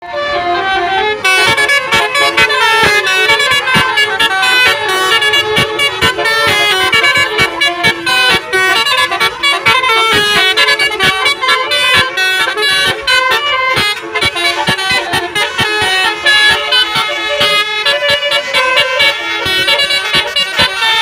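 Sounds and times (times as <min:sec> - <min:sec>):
multi-tone bus horn tune: 0:00.0 - 0:21.0.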